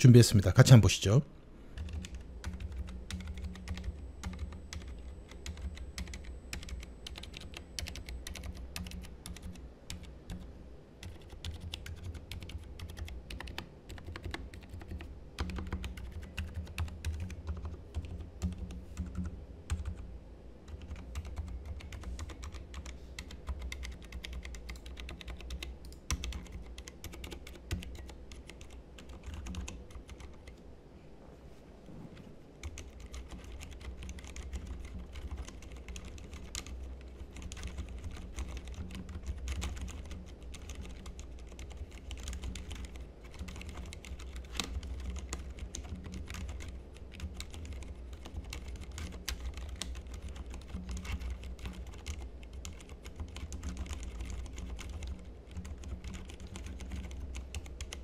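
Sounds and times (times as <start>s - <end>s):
mechanical keyboard typing: 1.8s - 10.4s, 11.0s - 20.0s, 20.7s - 30.6s, 32.6s - 58.0s.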